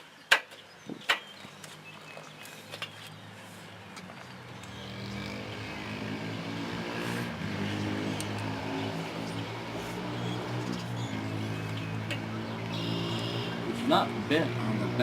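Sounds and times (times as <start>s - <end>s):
vehicle engine humming: 1.8s - 15.0s.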